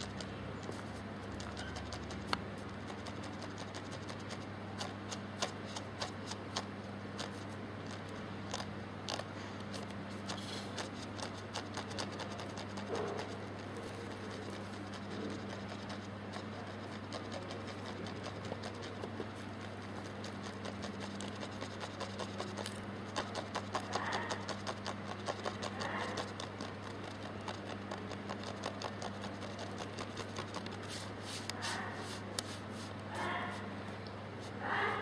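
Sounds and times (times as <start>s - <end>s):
kittens scampering and scratching: 0.0s - 35.0s
steady low hum: 0.0s - 35.0s.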